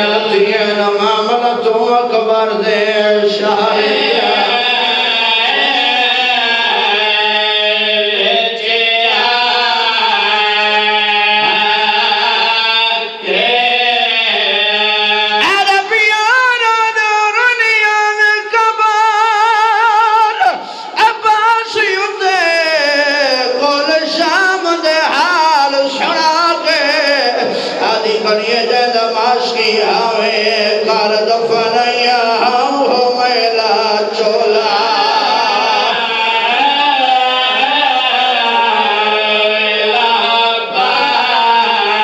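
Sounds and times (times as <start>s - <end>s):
man chanting a lament: 0.0s - 42.0s.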